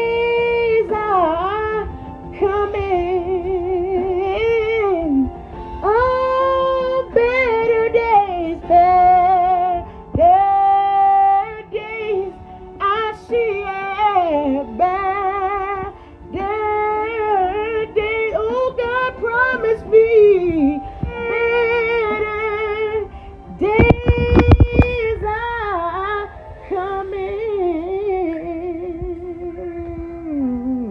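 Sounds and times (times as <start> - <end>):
faint backing music: 0.0 - 30.9
woman singing with vibrato: 0.0 - 30.9.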